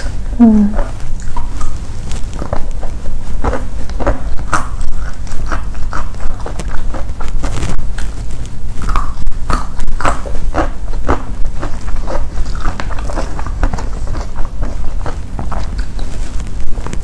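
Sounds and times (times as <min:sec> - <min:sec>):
crunchy chewing: 0:00.0 - 0:17.0.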